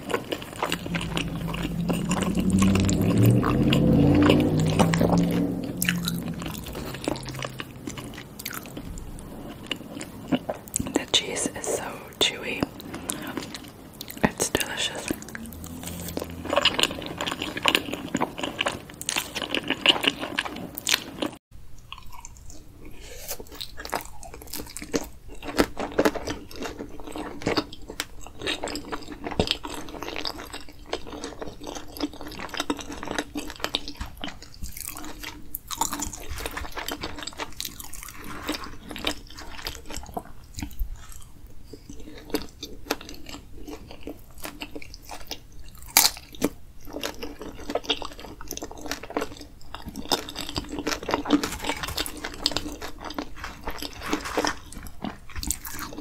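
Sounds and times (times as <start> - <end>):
close chewing mouth sounds: 0.0 - 56.0.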